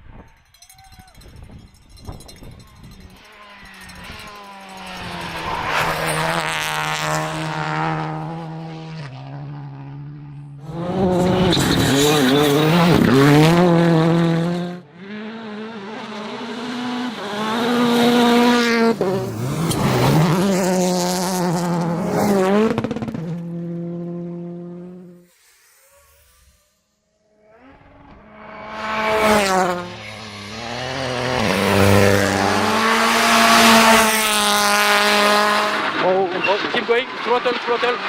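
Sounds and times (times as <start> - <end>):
rally car engines revving: 1.9 - 26.4, 27.4 - 38.0.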